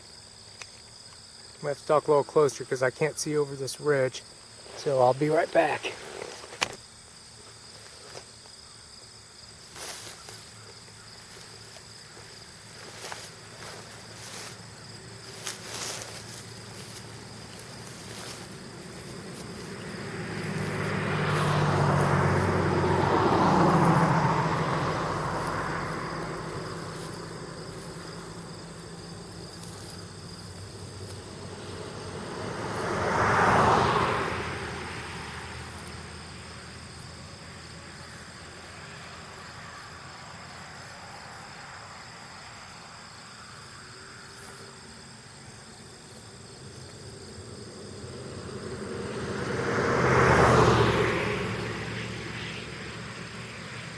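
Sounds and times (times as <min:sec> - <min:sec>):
insect chorus: 0:00.0 - 0:53.9
distant vehicles passing: 0:09.1 - 0:53.9.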